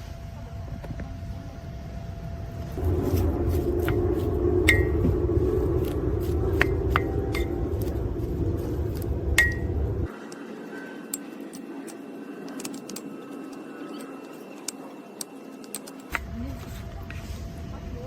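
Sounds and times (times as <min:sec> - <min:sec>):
steady low noise: 0:00.0 - 0:18.0.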